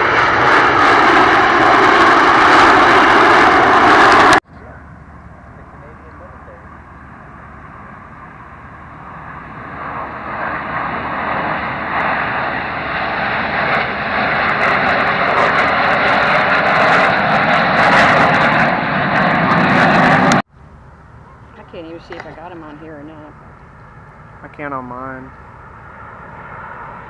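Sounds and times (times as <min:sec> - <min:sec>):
aircraft engine flyby: 0:00.0 - 0:27.0.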